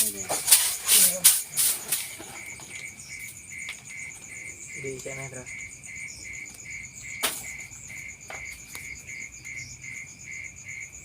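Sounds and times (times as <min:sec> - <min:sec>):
insects chirping in chorus: 0:00.0 - 0:11.0.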